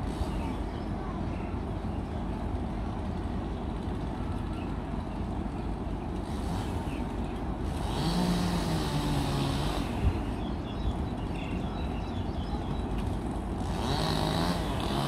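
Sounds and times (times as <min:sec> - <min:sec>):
engine hiss and hum: 0:00.0 - 0:11.8, 0:12.8 - 0:15.0
crane engine rumbling: 0:00.0 - 0:15.0.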